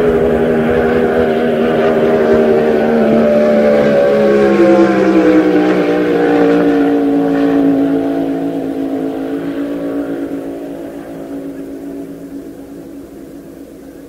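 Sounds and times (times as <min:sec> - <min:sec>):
racing boat engine passing: 0:00.0 - 0:14.0.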